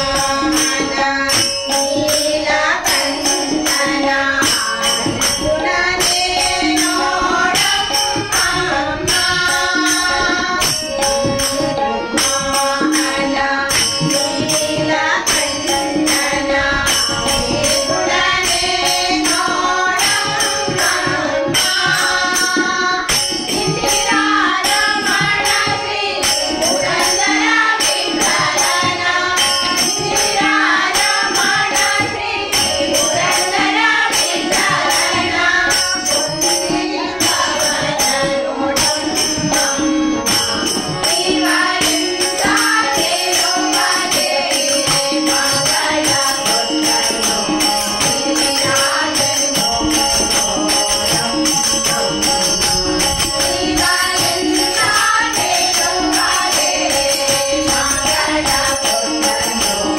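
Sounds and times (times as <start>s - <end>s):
harmonium: 0.0s - 59.9s
tabla beat: 0.0s - 59.9s
women singing devotional song: 0.0s - 59.9s.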